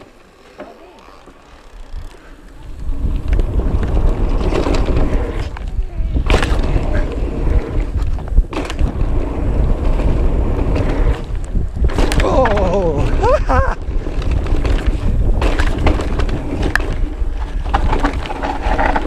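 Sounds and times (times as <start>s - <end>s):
bike rattling: 0.0s - 19.0s
bike tyres rumbling on dirt: 0.0s - 19.0s
wind buffeting microphone: 1.8s - 19.0s.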